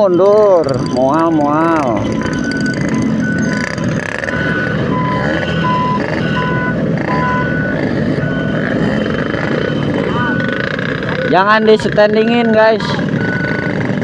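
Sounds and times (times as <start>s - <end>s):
engine rumble: 0.0s - 14.0s
reversing alarm beeping: 0.0s - 14.0s.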